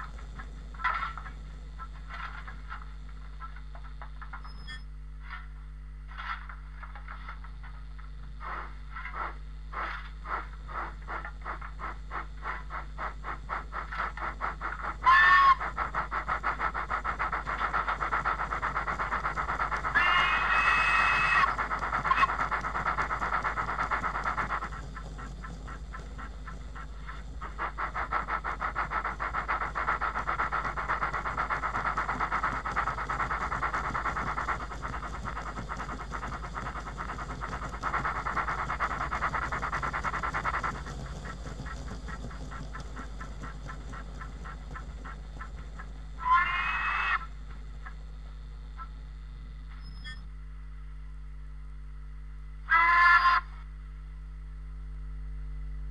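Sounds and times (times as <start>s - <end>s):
steam locomotive exhaust chuffs: 0.0s - 50.2s
steady low hum: 0.0s - 55.9s.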